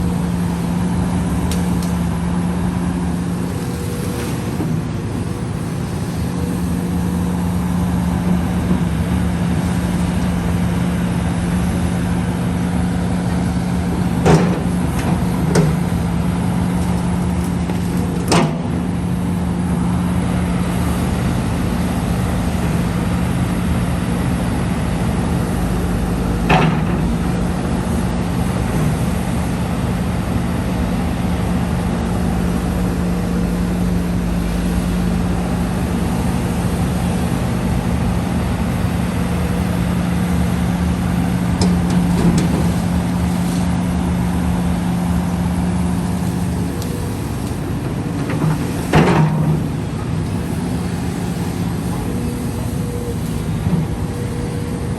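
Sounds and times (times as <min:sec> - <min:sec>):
heavy machine engine running: 0:00.0 - 0:54.9.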